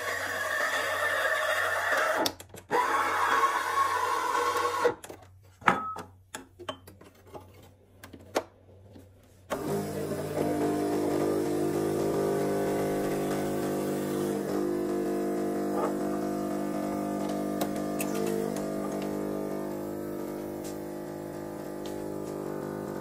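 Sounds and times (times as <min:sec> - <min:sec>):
electric appliance humming: 0:00.0 - 0:05.0, 0:09.5 - 0:23.0.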